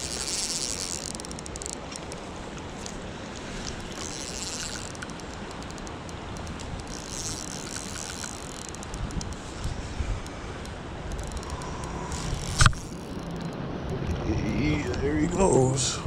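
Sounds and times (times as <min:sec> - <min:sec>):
fishing reel drag buzzing: 0:00.0 - 0:10.4, 0:11.1 - 0:13.6.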